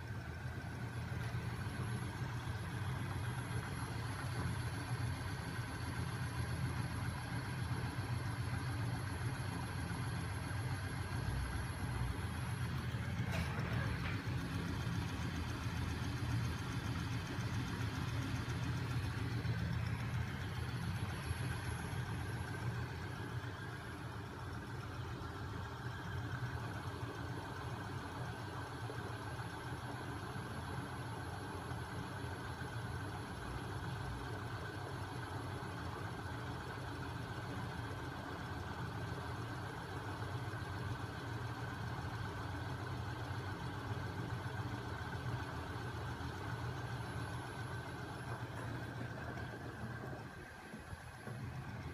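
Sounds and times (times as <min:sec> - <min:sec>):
machine humming and whirring: 0:00.0 - 0:51.9.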